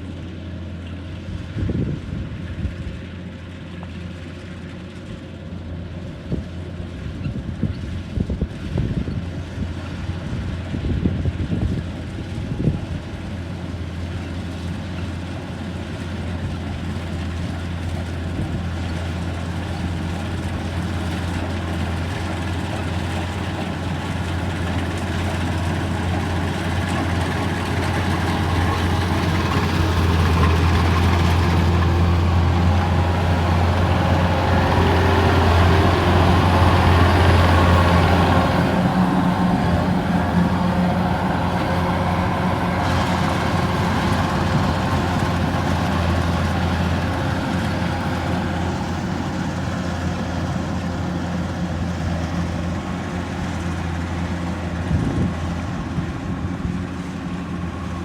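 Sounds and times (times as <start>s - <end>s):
diesel engine humming: 3.1s - 58.0s.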